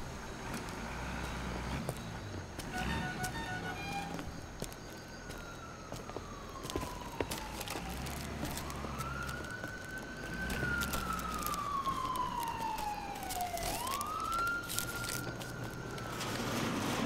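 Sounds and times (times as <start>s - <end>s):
siren wailing: 2.6s - 17.0s.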